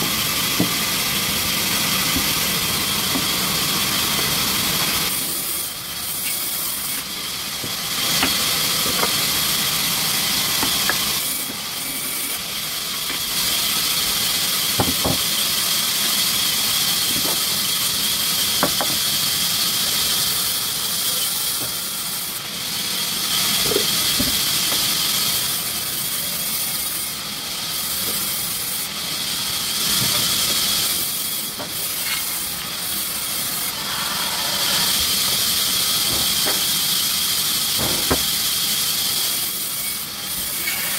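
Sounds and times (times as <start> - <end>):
sawmill machinery hissing: 0.0 - 40.9.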